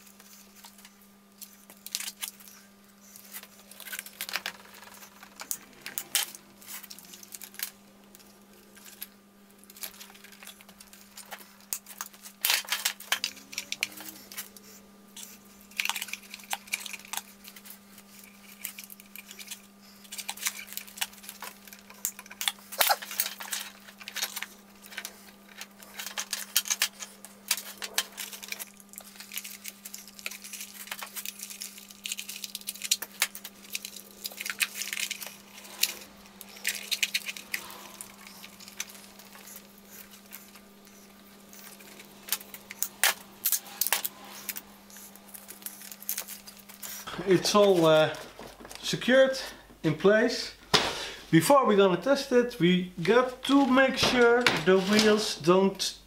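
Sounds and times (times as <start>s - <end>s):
hands working small parts: 0.0s - 49.3s
faint low hum: 0.0s - 56.0s.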